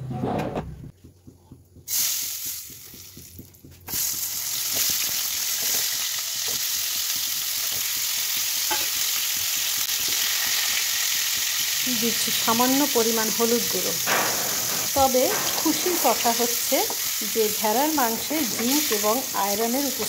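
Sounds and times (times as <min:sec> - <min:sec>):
vegetables sizzling in hot oil: 0:01.9 - 0:20.0.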